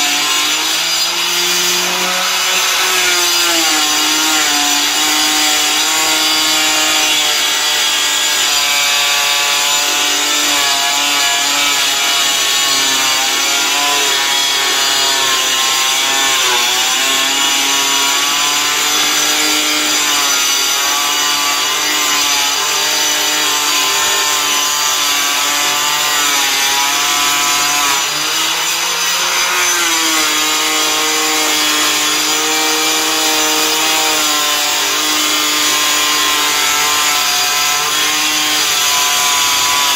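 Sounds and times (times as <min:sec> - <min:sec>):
angle grinder cutting board: 0:00.0 - 0:39.9.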